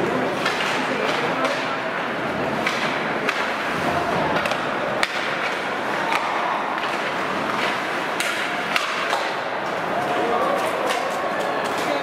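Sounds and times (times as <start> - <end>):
sticks and puck cracking: 0.3 - 3.6, 4.3 - 12.0.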